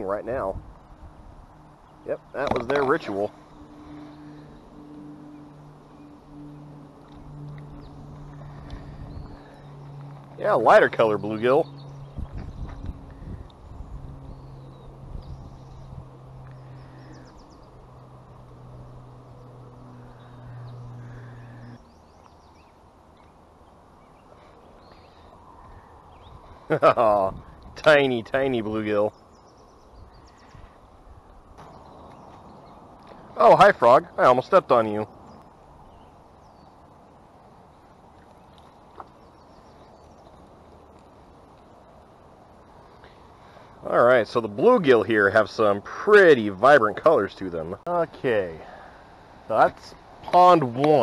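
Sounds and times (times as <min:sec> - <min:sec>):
steady low hum: 0:00.0 - 0:44.8
outdoor background hiss: 0:00.0 - 0:51.0
small birds chirping: 0:00.0 - 0:51.0.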